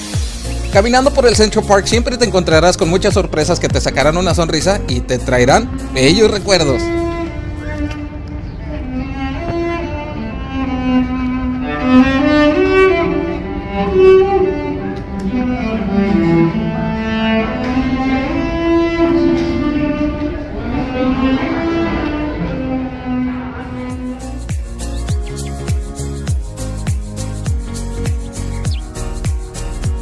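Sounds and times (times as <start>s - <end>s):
bowed cello melody: 0.4s - 30.0s.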